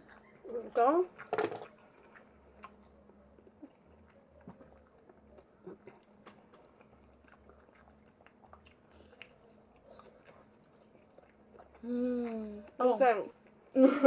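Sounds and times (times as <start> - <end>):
faint low hum: 0.0 - 14.0
people chewing: 0.0 - 14.0.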